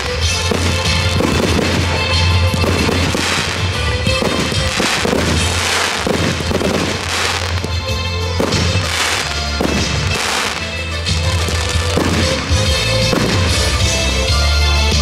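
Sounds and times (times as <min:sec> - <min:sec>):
fireworks bursting: 0:00.0 - 0:14.3
fireworks crackle: 0:00.0 - 0:14.3
music playing: 0:00.0 - 0:15.0.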